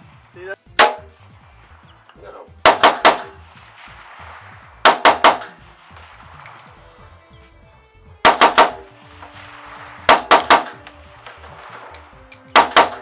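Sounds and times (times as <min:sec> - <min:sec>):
rifle shots: 0:00.0 - 0:07.4, 0:08.2 - 0:13.0.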